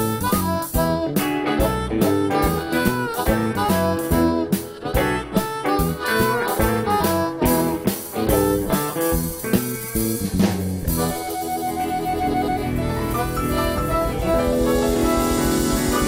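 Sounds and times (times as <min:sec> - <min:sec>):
amplified harmonica: 0:00.0 - 0:16.0
drum kit: 0:00.0 - 0:16.0
electric bass: 0:00.0 - 0:16.0
keyboard chords: 0:00.0 - 0:16.0.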